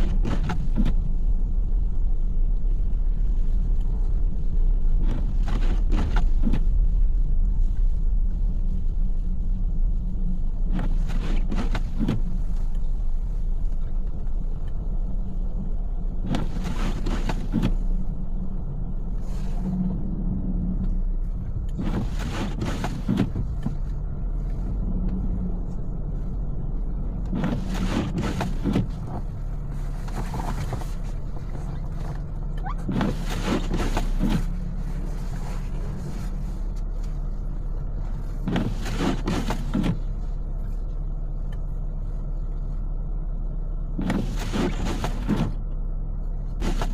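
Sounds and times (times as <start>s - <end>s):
windshield wipers swishing: 0.0s - 42.8s, 43.8s - 46.9s
car road and engine rumble: 0.0s - 46.9s.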